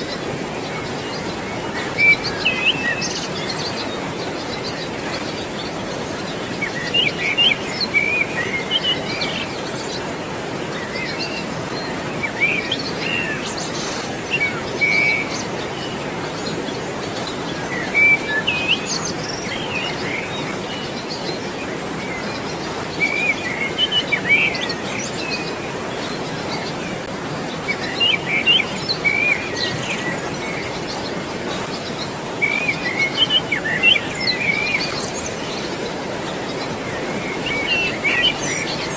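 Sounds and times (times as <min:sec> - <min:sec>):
birds chirping: 0:00.0 - 0:38.9
rushing water: 0:00.0 - 0:38.9.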